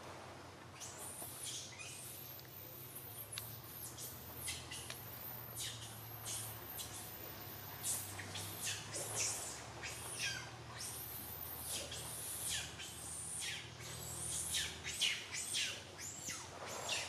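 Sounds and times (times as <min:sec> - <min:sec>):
baby monkey squealing: 0:00.8 - 0:17.0.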